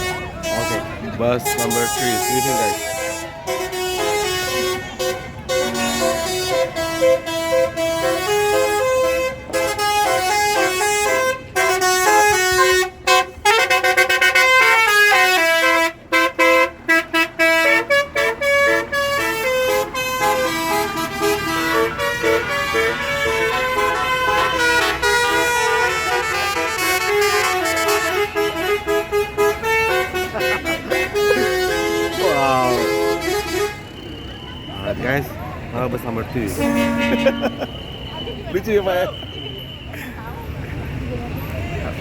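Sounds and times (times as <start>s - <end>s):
musical bus horn melody: 0.0s - 34.5s, 36.5s - 38.3s.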